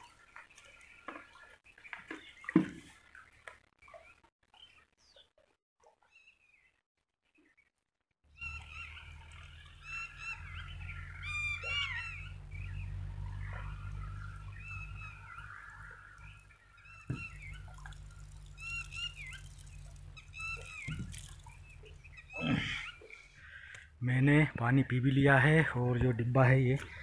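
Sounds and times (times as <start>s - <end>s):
birds calling: 0.0s - 6.8s, 8.3s - 27.0s.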